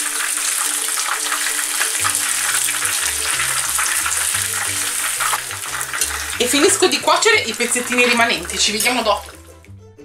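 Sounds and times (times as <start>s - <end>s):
fish frying in hot oil: 0.0s - 9.6s.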